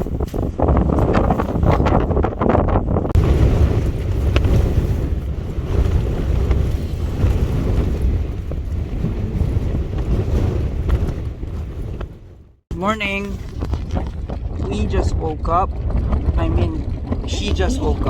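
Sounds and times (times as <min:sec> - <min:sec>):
strong gusting wind on microphone: 0:00.0 - 0:18.0.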